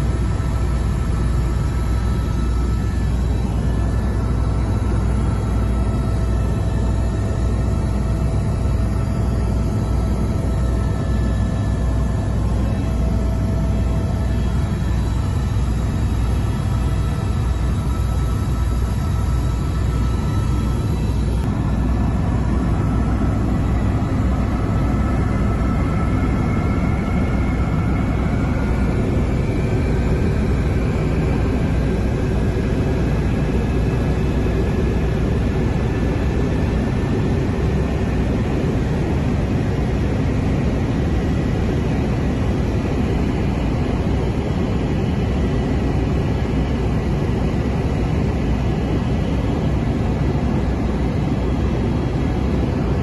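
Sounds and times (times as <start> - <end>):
helicopter rotor and turbine noise: 0.0 - 53.0.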